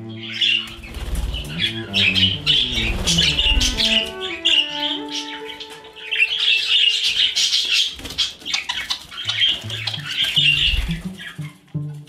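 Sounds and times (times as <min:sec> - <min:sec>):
budgerigars chirping and squawking: 0:00.0 - 0:11.6
background music: 0:00.0 - 0:12.0.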